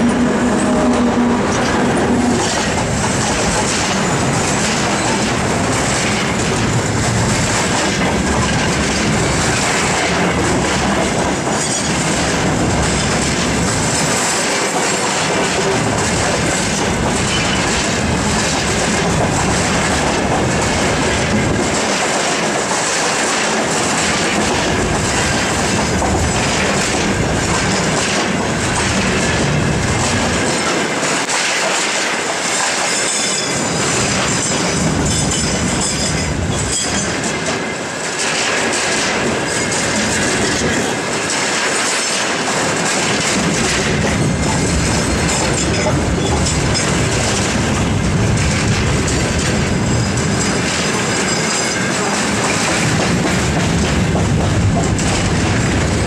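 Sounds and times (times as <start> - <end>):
train wheels rumbling on rail: 0.0 - 56.0
wheels clattering over rail joints: 0.0 - 56.0.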